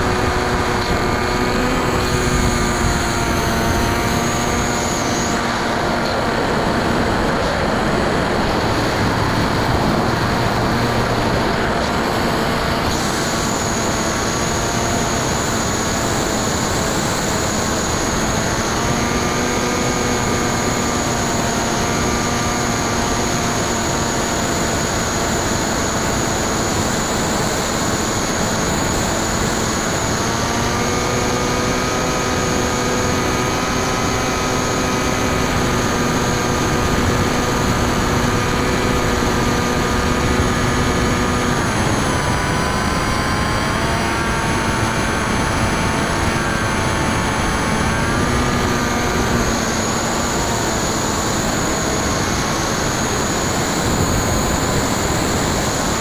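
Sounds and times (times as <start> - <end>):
electric motor and propeller buzzing: 0.0 - 56.0
thin high whine: 0.0 - 56.0
wind noise: 0.0 - 56.0.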